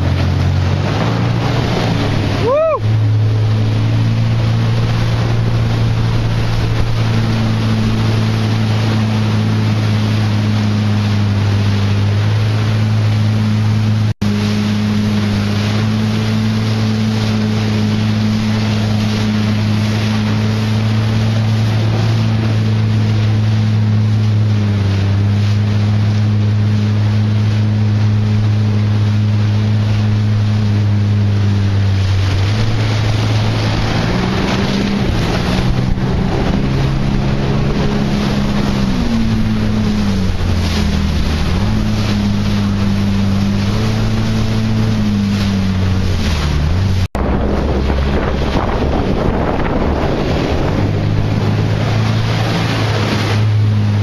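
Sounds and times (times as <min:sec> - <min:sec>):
marine engine running: 0:00.0 - 0:54.0
rushing water: 0:00.0 - 0:54.0
wind noise: 0:00.0 - 0:54.0.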